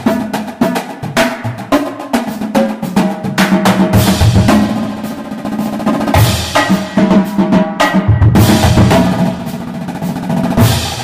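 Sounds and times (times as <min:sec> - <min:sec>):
drum kit beat: 0:00.0 - 0:11.0.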